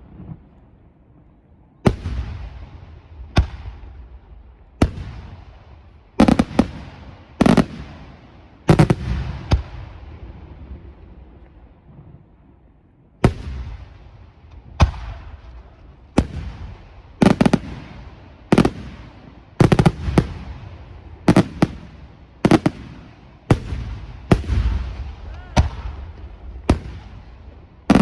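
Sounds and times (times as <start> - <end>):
fireworks bangs with echoing rumble: 0.0 - 28.0.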